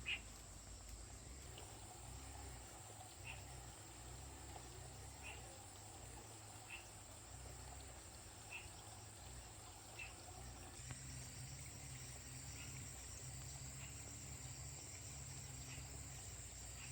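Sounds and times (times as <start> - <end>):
insect chirp: 0.0 - 16.9
insect chorus drone: 0.0 - 16.9.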